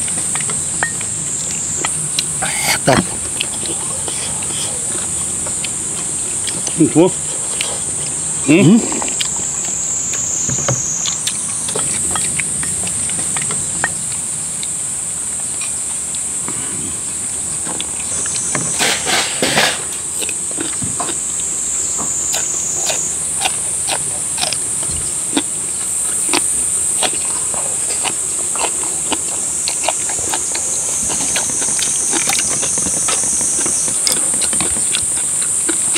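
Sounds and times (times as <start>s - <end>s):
insect chorus drone: 0.0s - 35.9s.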